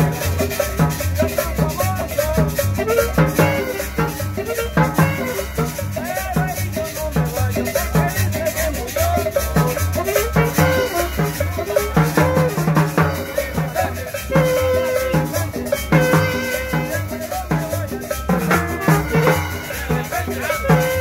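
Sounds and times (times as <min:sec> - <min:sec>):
upbeat latin dance music: 0:00.0 - 0:21.0.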